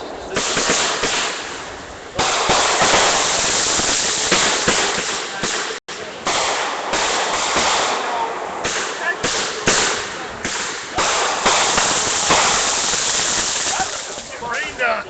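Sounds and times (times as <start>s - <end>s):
fireworks crackling bangs: 0.0s - 14.8s.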